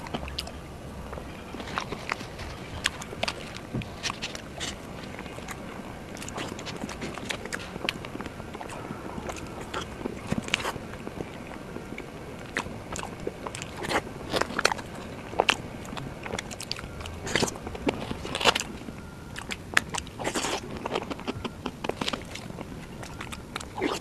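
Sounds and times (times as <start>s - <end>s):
chewing with mouth clicks: 0.0s - 24.0s.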